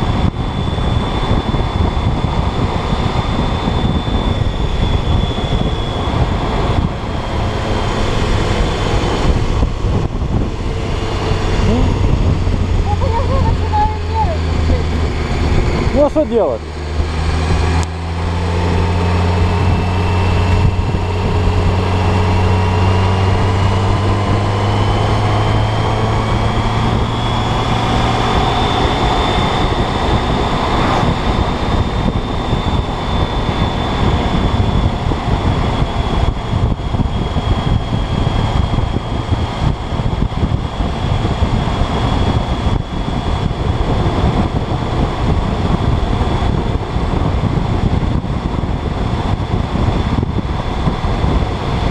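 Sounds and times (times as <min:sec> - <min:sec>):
motorcycle engine running: 0:00.0 - 0:51.9
rising whine: 0:00.0 - 0:51.9
rushing noise: 0:00.0 - 0:51.9.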